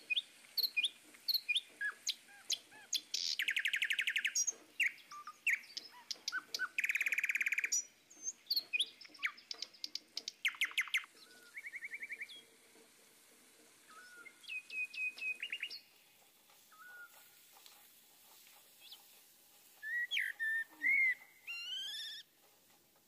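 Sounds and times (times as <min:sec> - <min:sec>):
small birds chirping and trilling: 0:00.0 - 0:22.5.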